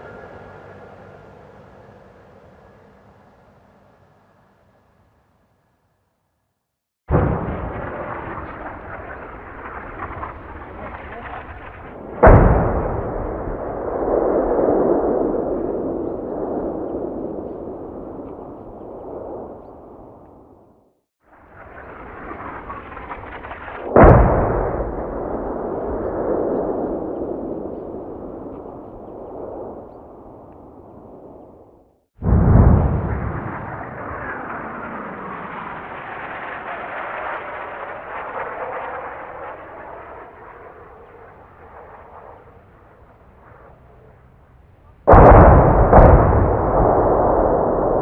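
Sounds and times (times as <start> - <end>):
explosion boom: 7.1 - 20.6, 21.4 - 43.8, 45.0 - 48.0
noise before explosion: 7.1 - 48.0.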